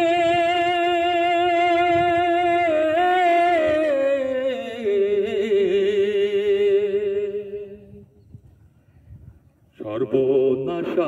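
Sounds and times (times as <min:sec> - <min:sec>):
man singing unaccompanied: 0:00.0 - 0:08.0, 0:09.8 - 0:11.0.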